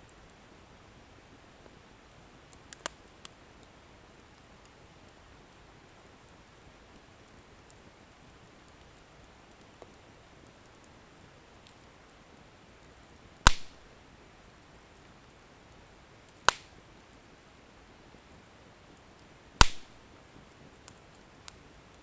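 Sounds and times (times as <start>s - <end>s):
bonfire burning: 0.1s - 22.0s
firewood crackling: 0.1s - 22.0s.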